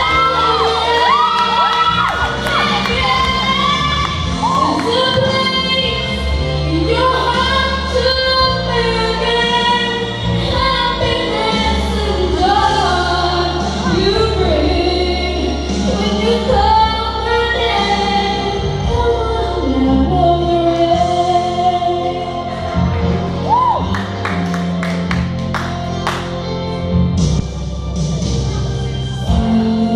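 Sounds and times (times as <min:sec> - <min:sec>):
woman singing a slow ballad: 0:00.0 - 0:23.9, 0:28.9 - 0:29.9
instrumental accompaniment with bass: 0:00.0 - 0:29.9.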